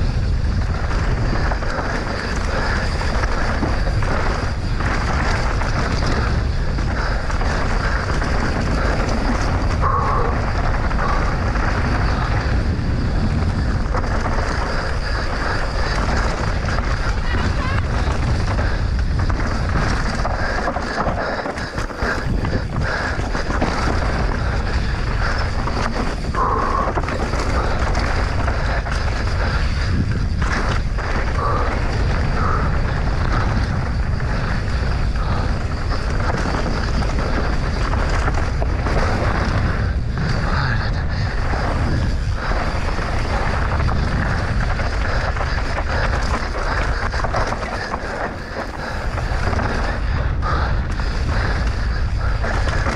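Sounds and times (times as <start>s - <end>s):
bike tyres on dirt trail: 0.0s - 52.9s
wind rushing over microphone: 0.0s - 52.9s.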